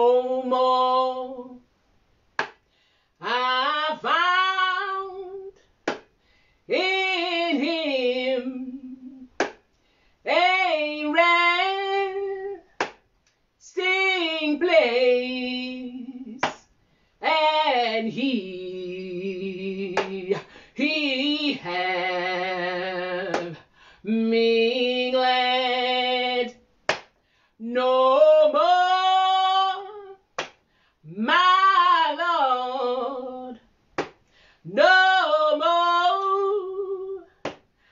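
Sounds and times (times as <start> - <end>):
woman singing: 0.0 - 1.7, 3.2 - 5.6, 6.7 - 9.5, 10.2 - 12.8, 13.6 - 26.6, 27.6 - 30.3, 31.0 - 33.7, 34.6 - 37.6.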